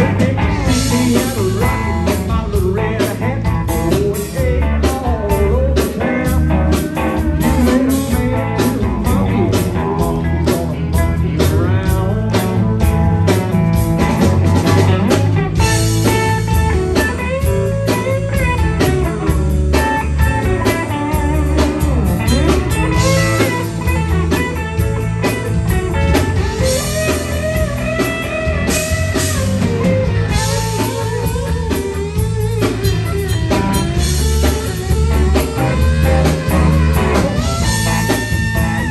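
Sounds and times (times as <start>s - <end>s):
bass guitar: 0.0s - 38.9s
drums: 0.0s - 38.9s
lead electric guitar: 0.0s - 38.9s.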